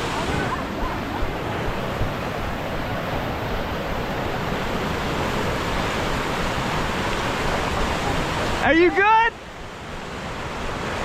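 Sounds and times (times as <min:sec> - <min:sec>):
whitewater rapids roaring: 0:00.0 - 0:11.0.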